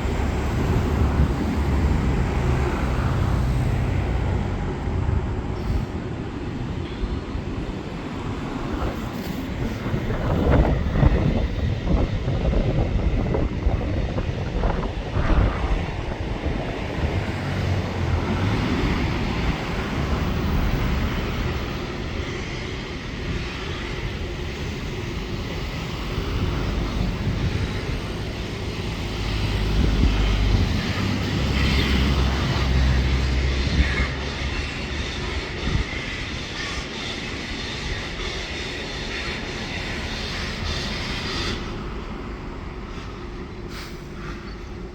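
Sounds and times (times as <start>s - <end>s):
steam locomotive rumbling: 0.0s - 44.9s.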